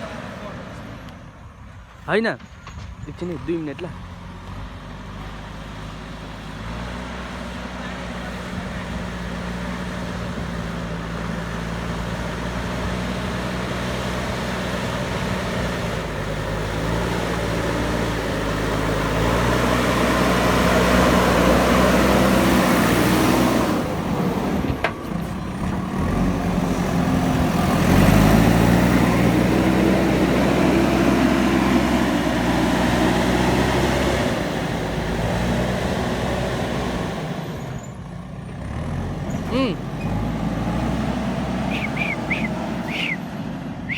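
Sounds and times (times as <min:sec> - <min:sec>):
diesel engine revving: 0:00.0 - 0:01.4, 0:03.3 - 0:43.9.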